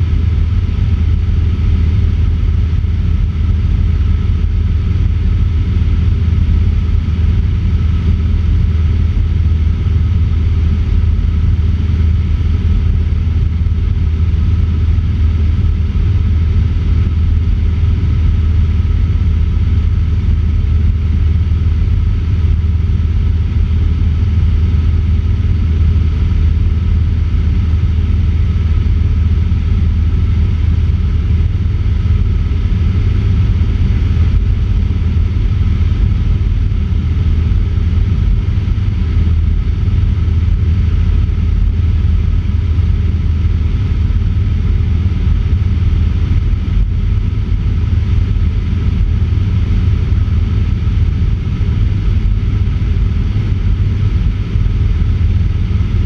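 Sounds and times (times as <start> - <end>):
airplane engine droning: 0.0 - 56.0.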